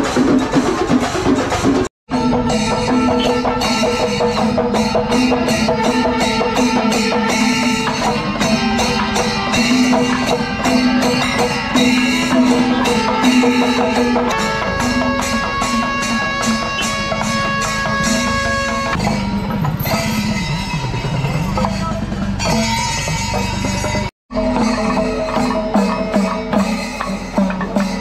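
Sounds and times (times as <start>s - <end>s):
rapid drum strokes: 0.0s - 28.0s.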